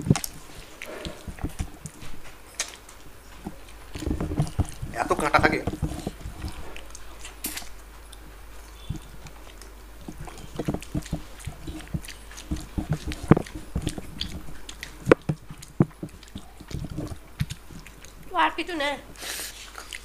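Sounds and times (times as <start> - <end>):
chewing and lip smacks: 0.0 - 18.3, 19.4 - 20.0.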